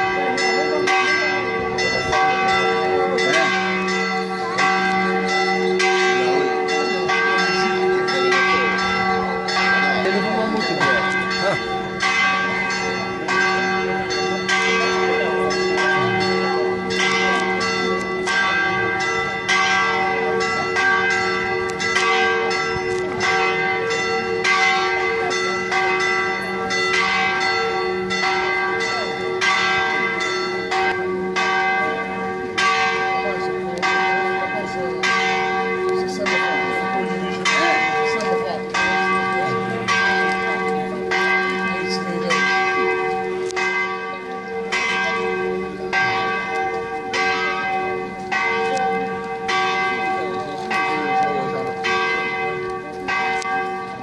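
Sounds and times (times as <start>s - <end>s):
church bells pealing: 0.0s - 54.0s.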